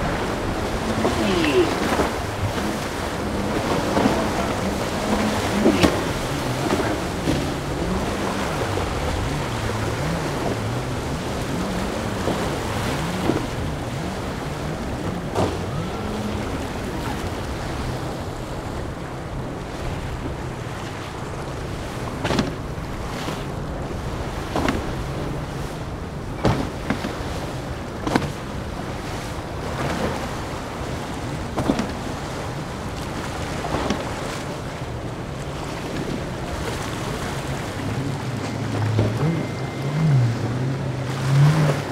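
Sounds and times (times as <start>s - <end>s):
hull slapping waves: 0.0s - 41.9s
motorboat engines droning: 0.0s - 41.9s
surf and spray rushing: 0.0s - 41.9s.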